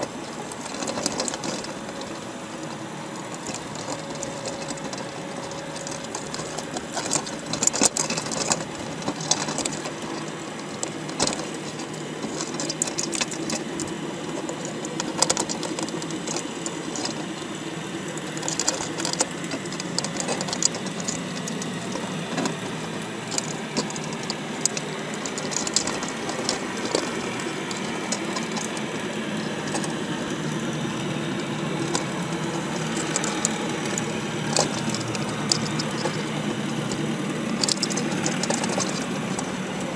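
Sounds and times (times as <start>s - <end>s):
machine running: 0.0s - 39.9s
sharp clicks and clatter: 0.0s - 39.9s.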